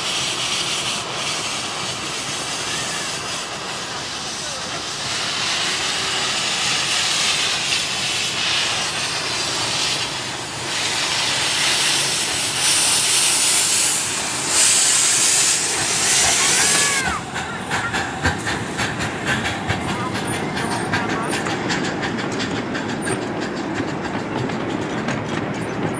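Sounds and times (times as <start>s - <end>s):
steam locomotive hissing: 0.0s - 25.9s
wheels clicking on rails: 0.2s - 25.9s.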